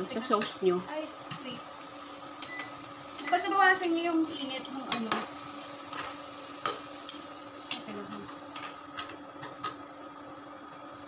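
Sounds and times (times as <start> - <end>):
cooktop hum: 0.0 - 11.0.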